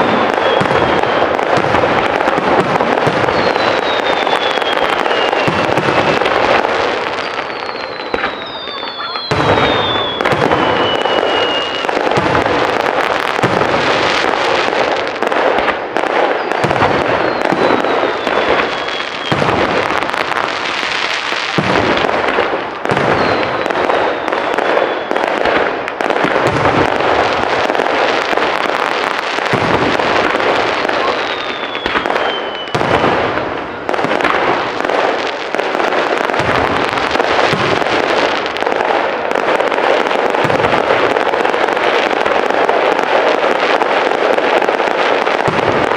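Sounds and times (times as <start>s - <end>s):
falling firework whistle: 0.0s - 45.9s
fireworks booming and crackling: 0.0s - 45.9s.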